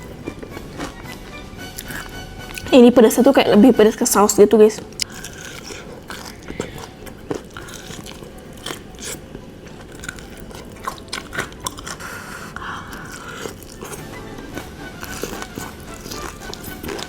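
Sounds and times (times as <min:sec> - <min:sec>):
biting and chewing food: 0:00.0 - 0:02.7, 0:04.8 - 0:17.0.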